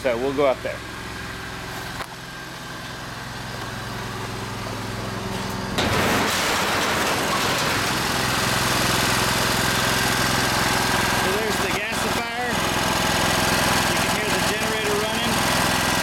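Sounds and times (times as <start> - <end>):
generator engine humming: 0.0 - 16.0.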